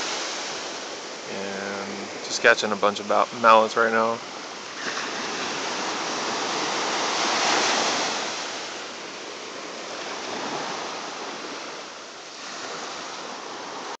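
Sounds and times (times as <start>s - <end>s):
ocean surf on sandy beach: 0.0s - 14.0s.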